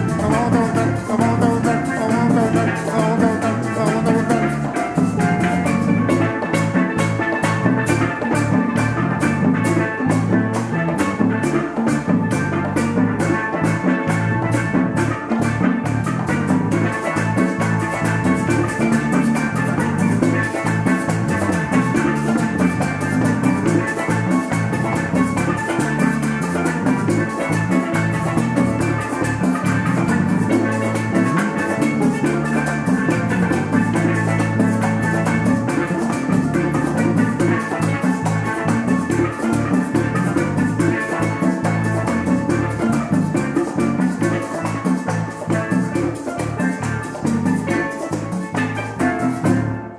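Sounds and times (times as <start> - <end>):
drum kit fast beat: 0.0 - 49.6
worship band playing: 0.0 - 49.9.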